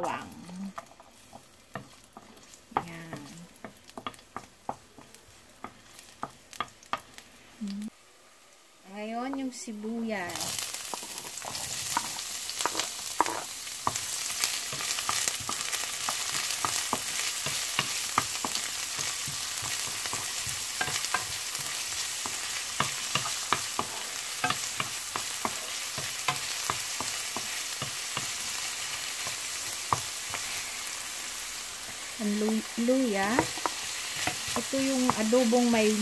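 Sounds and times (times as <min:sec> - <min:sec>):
wooden spoon scraping a pan: 0:00.0 - 0:07.2, 0:10.4 - 0:31.2, 0:31.8 - 0:36.0
onion sizzling in a frying pan: 0:00.0 - 0:36.0.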